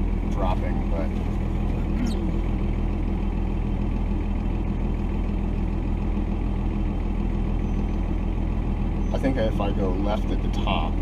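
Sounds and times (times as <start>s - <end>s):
diesel engine running at low speed: 0.0s - 11.0s.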